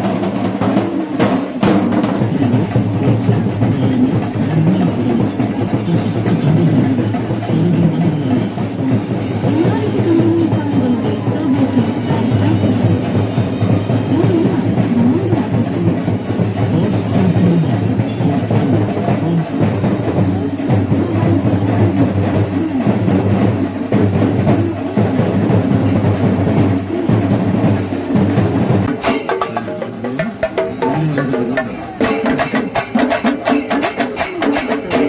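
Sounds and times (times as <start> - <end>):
loud dense drumming: 0.0 - 35.0.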